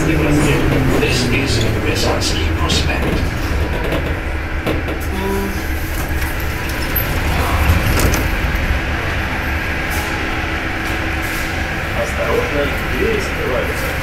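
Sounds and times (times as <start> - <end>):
subway car rumble: 0.0 - 14.0.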